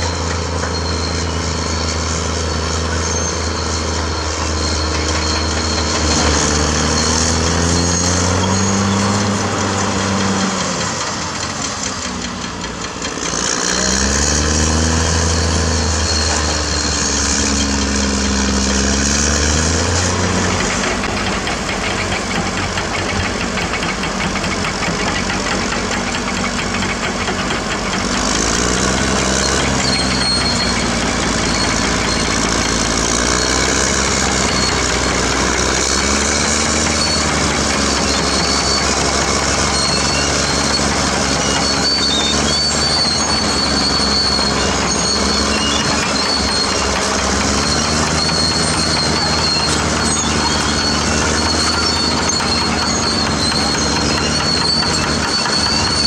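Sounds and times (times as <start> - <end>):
bulldozer diesel engine revving: 0.0 - 56.0.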